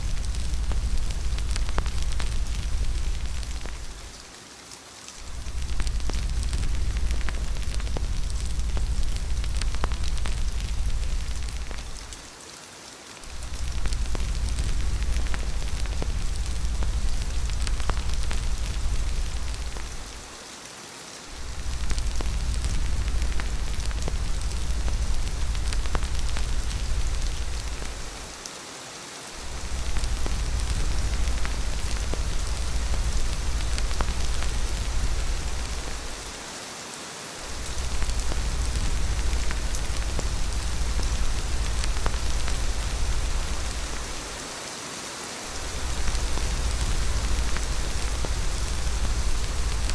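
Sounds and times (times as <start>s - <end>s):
low wind rumble: 0.0s - 4.3s, 5.2s - 12.4s, 13.2s - 20.4s, 21.3s - 28.5s, 29.3s - 36.5s, 37.4s - 44.6s, 45.4s - 49.9s
raindrop ticks: 0.0s - 4.4s, 5.0s - 20.4s, 21.3s - 28.6s, 29.3s - 36.5s, 37.4s - 44.6s, 45.4s - 49.9s
steady rain hiss: 0.0s - 49.9s.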